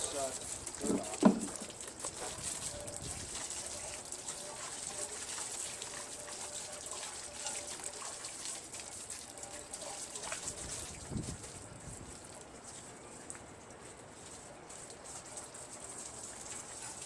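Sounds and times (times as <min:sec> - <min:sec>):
water splashing on panels: 0:00.0 - 0:17.0.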